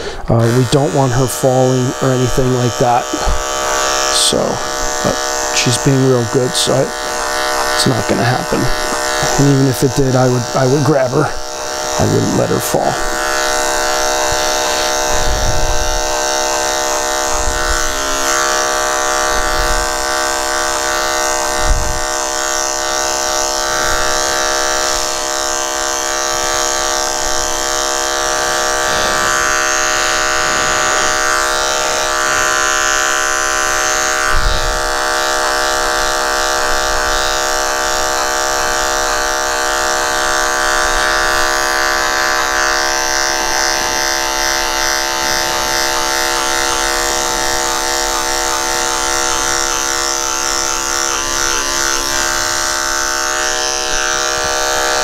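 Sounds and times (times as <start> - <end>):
electric clipper buzzing: 0.0 - 55.0.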